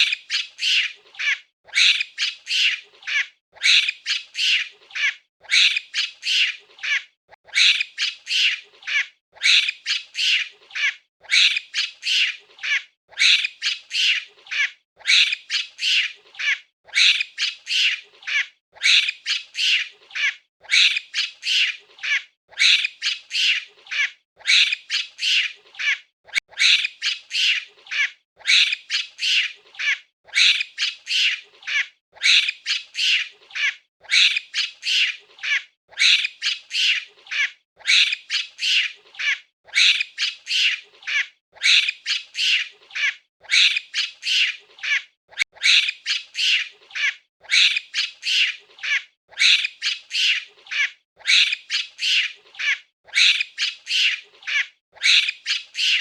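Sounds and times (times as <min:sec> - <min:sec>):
monkey screeching calls: 0:00.0 - 0:56.0.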